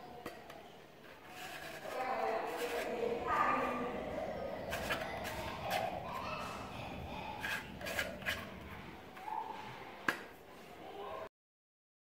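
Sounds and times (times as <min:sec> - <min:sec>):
plastic rubbing: 0:00.2 - 0:10.4.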